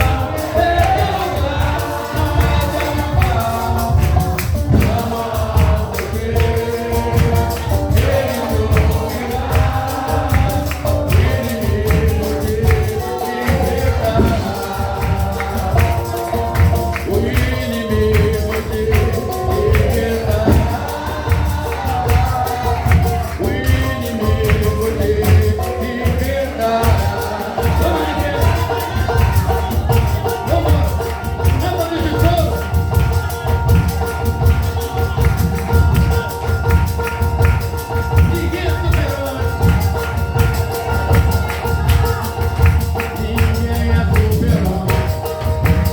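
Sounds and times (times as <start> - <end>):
gospel band with singing: 0.0 - 45.9
tambourine: 0.0 - 45.9.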